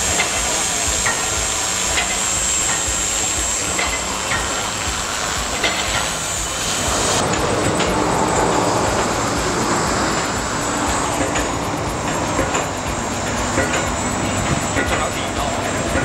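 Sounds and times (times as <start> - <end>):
electric motor whine: 0.0 - 16.0
rotor blades whirring: 0.0 - 16.0.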